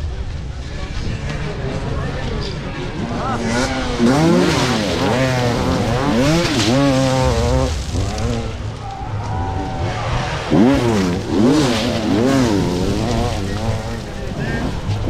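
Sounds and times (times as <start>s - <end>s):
motocross bikes revving: 1.2s - 15.0s.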